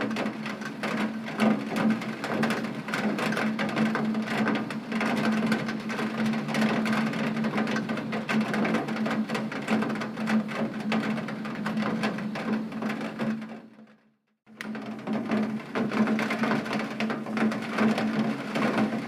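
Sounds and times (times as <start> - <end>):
heavy rain on a window: 0.0 - 13.8, 14.6 - 19.0.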